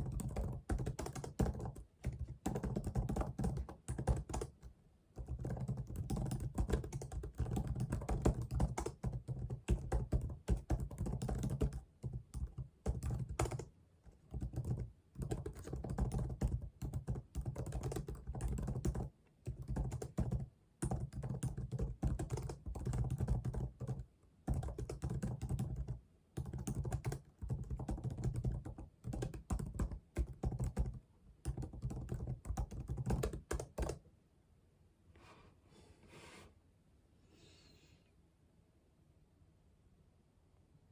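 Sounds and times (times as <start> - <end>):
fast typing on keyboard: 0.0 - 34.0.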